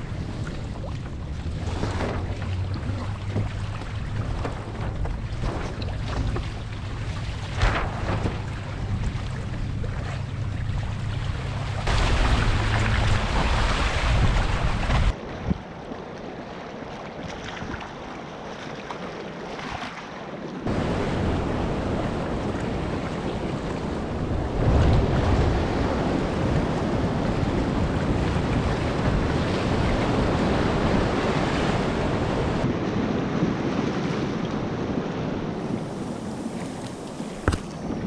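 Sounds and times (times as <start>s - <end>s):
wind buffeting microphone: 0.0s - 15.9s, 20.7s - 38.0s
water rushing along hull: 0.0s - 38.0s
waves breaking: 0.0s - 38.0s.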